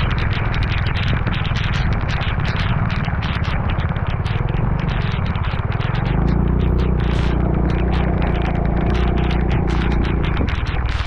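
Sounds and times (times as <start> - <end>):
vehicle engine running: 0.0 - 11.0
wind noise on microphone: 0.0 - 11.0.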